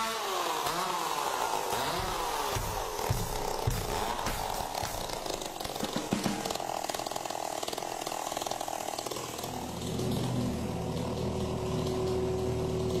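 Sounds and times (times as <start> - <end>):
chainsaw idling: 0.0 - 13.0.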